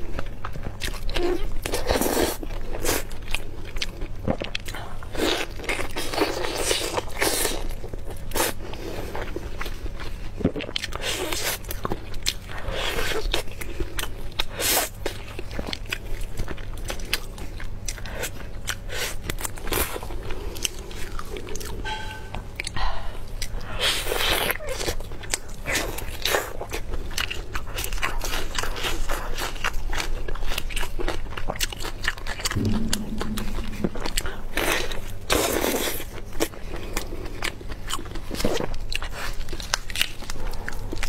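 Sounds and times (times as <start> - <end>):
chewing with wet mouth sounds: 0.0 - 21.8, 22.6 - 33.3, 36.9 - 41.0.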